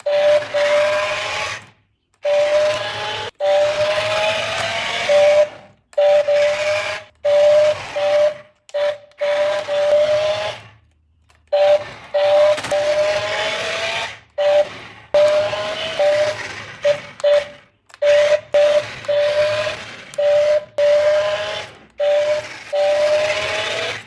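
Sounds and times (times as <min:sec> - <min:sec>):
toy car motor whining: 0:00.0 - 0:24.0.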